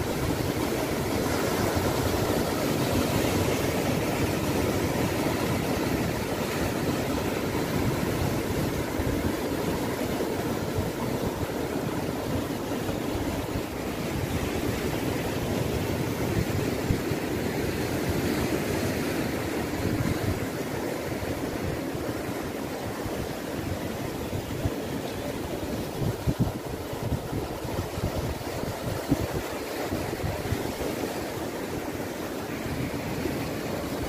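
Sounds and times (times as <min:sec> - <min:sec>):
ocean surf breaking: 0:00.0 - 0:34.0
wind gusting on microphone: 0:00.0 - 0:34.0.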